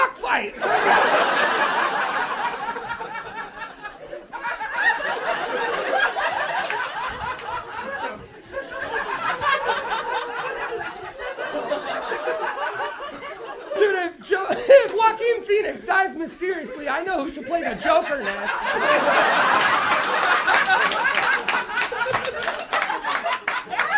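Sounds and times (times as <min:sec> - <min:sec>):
audience laughing: 0:00.0 - 0:15.4, 0:16.4 - 0:23.9.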